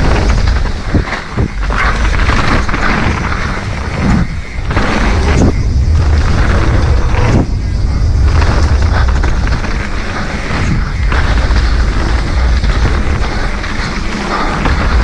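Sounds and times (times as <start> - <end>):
mountain bike rattling on dirt trail: 0.0 - 15.0
wind buffeting microphone: 0.0 - 15.0.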